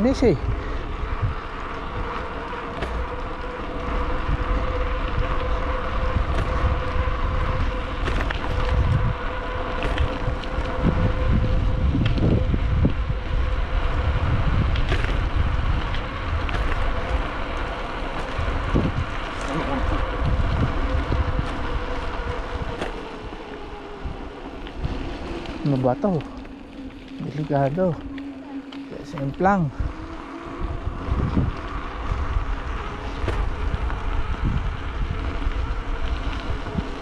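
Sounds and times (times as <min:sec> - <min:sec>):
bicycle tyres rolling: 0:00.0 - 0:37.0
wind buffeting microphone: 0:00.0 - 0:37.0.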